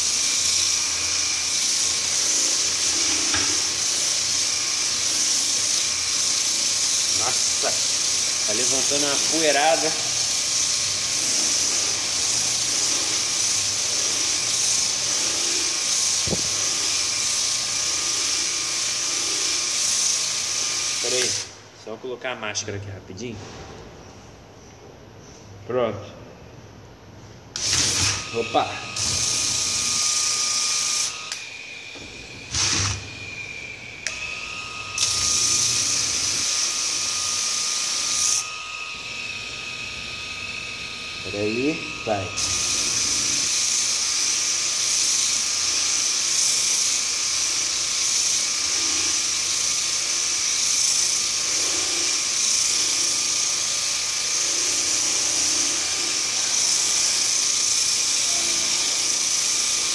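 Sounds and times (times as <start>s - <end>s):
disc sander on rough wood: 0.0s - 21.5s, 27.6s - 59.9s
electric motor whining: 0.0s - 21.5s, 27.6s - 59.9s.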